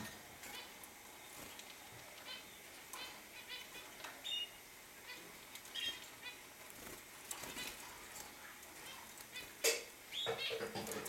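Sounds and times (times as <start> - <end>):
small birds chirping and twittering: 0.0 - 11.0.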